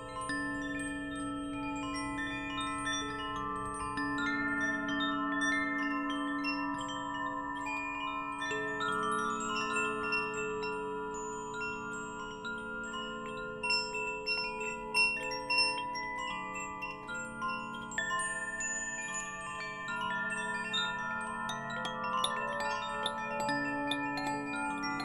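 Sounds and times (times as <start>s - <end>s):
wind chimes tinkling: 0.0s - 25.0s.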